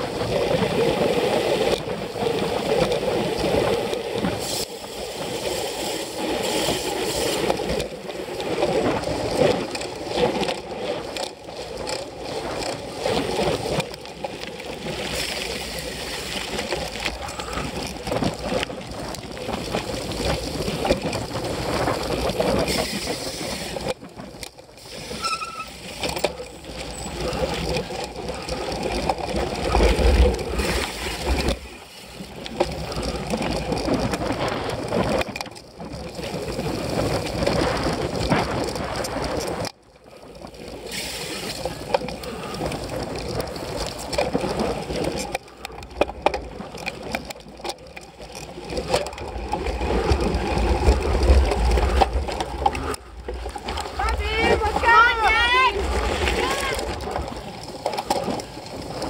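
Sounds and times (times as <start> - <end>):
bike knocking and rattling: 0.0 - 59.0.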